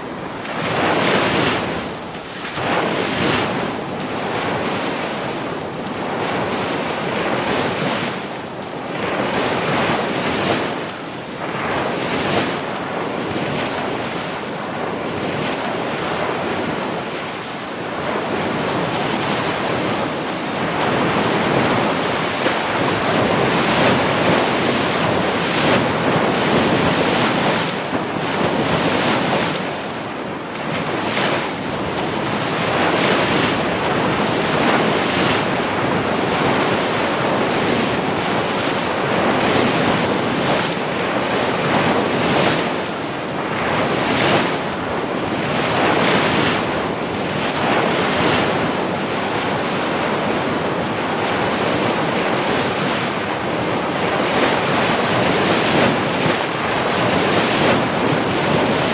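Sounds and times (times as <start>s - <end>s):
waves breaking: 0.0s - 58.9s.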